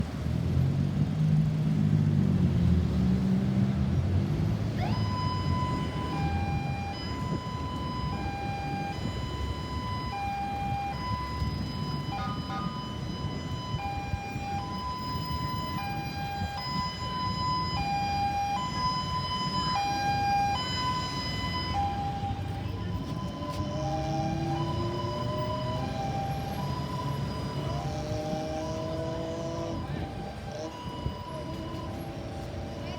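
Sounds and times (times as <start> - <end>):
ambulance siren two-tone: 4.6 - 32.9.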